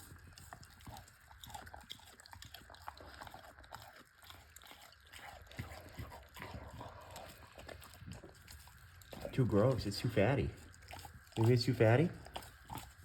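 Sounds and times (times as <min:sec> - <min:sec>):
dog chewing meat: 0:00.0 - 0:13.0.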